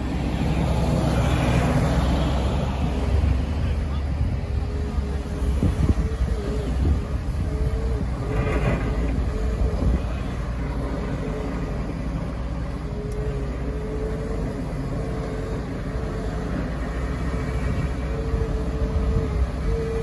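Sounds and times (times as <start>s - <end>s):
diesel engine rumbling under load: 0.0s - 20.0s.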